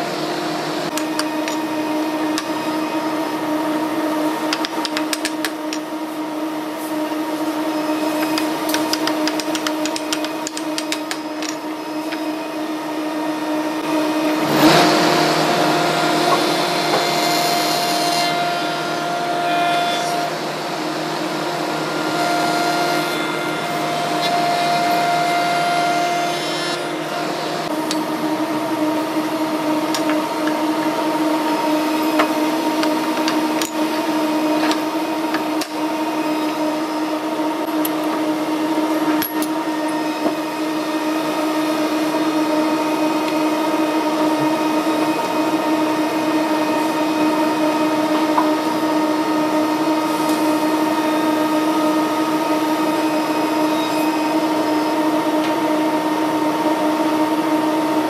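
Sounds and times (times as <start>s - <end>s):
workshop machinery humming: 0.0s - 58.0s.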